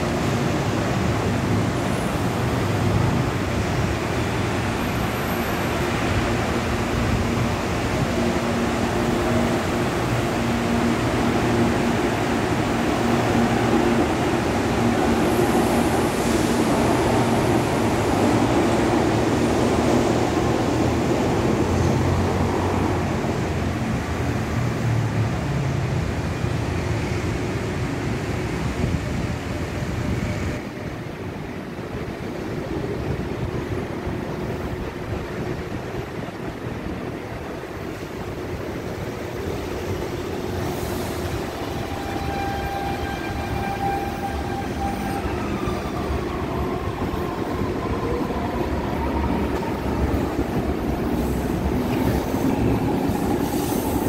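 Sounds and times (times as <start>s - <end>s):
trains rumbling: 0.0s - 54.0s.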